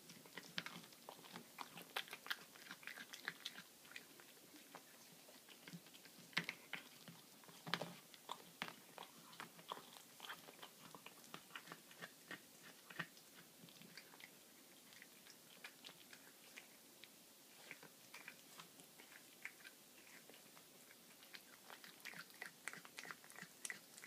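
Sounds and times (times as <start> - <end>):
cat crunching small bones: 0.2 - 4.2, 5.5 - 14.3, 14.9 - 24.0.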